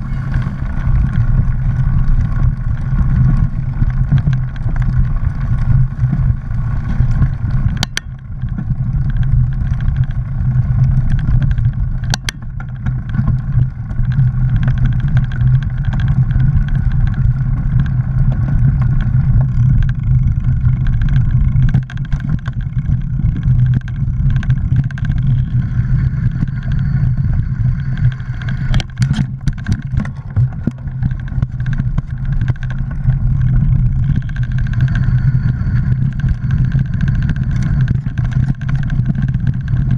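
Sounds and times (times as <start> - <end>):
bike tyres rumbling on dirt: 0.0 - 39.9.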